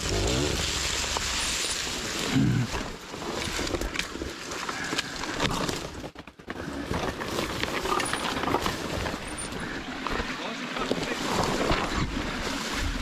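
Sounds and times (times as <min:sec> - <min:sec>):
twigs crackling: 0:00.0 - 0:13.0
scrub scraping against dirt bike: 0:00.2 - 0:04.6, 0:06.6 - 0:13.0.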